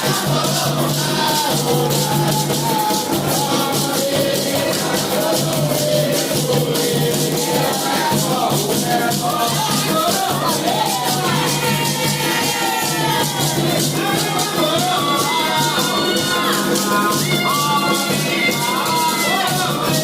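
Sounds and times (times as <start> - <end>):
shakers and percussion: 0.0 - 20.0
voices singing: 0.0 - 20.0.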